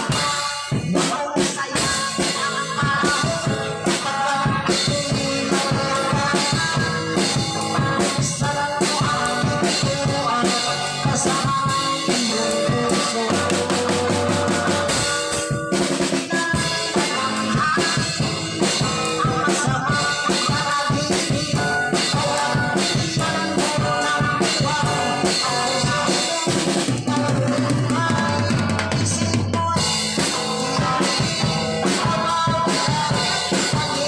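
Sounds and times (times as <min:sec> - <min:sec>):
drum kit played hard: 0:00.0 - 0:34.0
electric guitar: 0:00.0 - 0:34.0.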